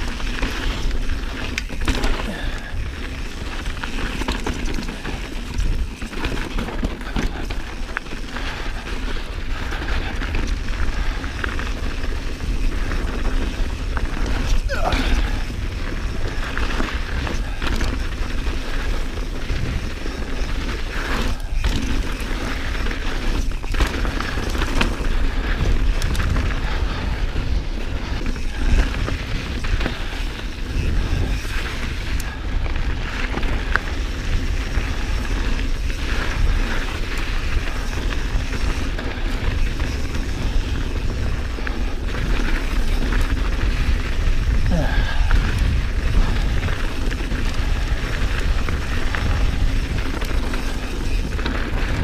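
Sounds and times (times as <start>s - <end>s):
bike knocks and rattles: 0.0s - 52.0s
bike tyres rolling on dirt: 0.0s - 52.0s
wind buffeting microphone: 0.0s - 52.0s.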